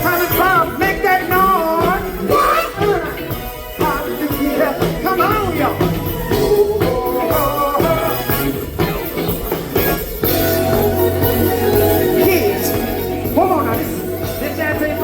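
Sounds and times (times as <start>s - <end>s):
people singing: 0.0s - 8.9s, 10.2s - 15.0s
funk band playing: 0.0s - 15.0s.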